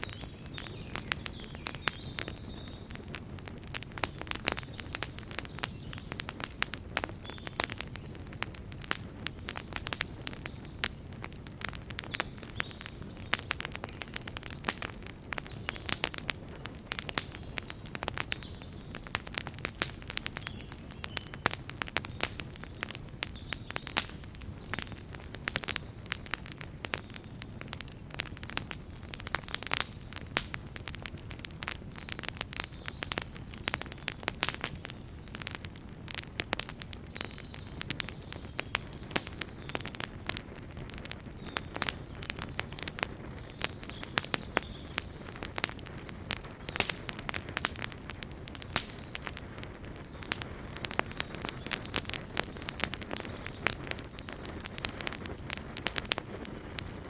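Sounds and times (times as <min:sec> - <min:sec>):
low rumble of flames: 0:00.0 - 0:57.0
wood fire crackling and popping: 0:00.0 - 0:57.0.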